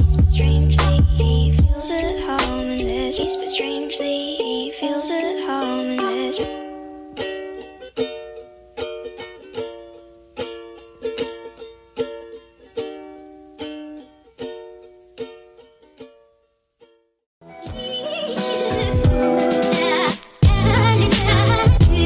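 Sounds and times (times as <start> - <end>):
plucked-string music: 0.0 - 19.3.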